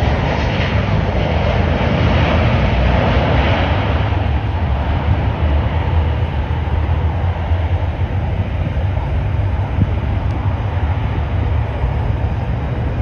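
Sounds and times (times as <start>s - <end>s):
distant jet engines roaring: 0.0s - 13.0s
wind buffeting microphone: 0.0s - 13.0s.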